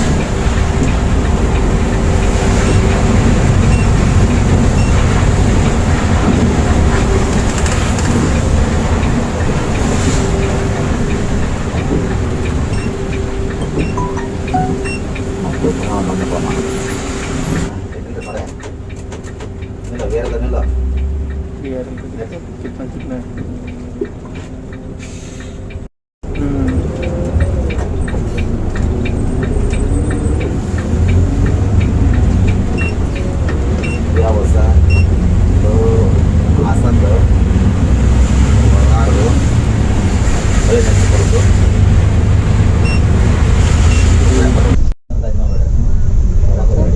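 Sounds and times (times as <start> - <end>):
coach engine and road rumble: 0.0 - 46.9.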